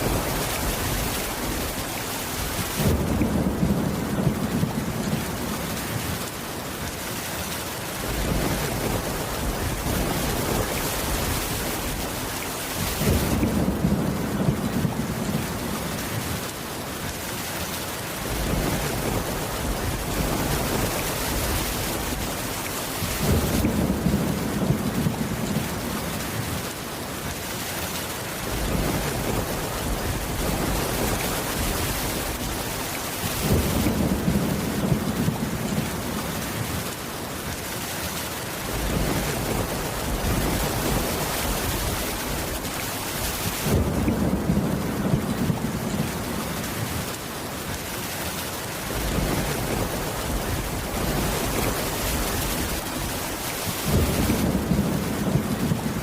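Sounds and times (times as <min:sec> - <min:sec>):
low thunder rumbling: 0:00.0 - 0:06.9, 0:08.0 - 0:16.5, 0:18.2 - 0:26.7, 0:28.4 - 0:36.9, 0:38.6 - 0:47.2, 0:48.8 - 0:56.0
steady rain: 0:00.0 - 0:56.0.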